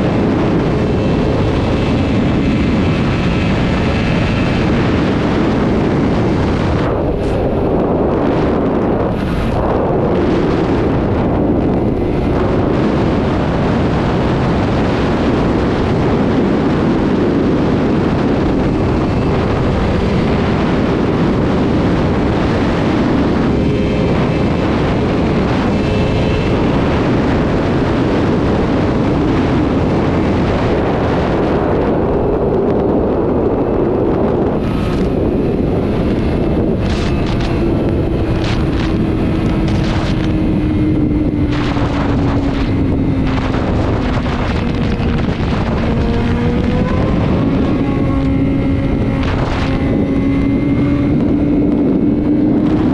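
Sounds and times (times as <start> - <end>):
motorcycle engine at speed: 0.0 - 52.9
wind noise on microphone: 0.0 - 52.9.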